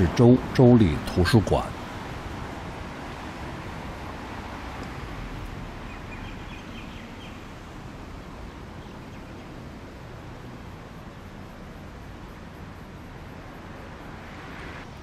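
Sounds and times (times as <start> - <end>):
city street rumble and hiss: 0.0 - 15.0.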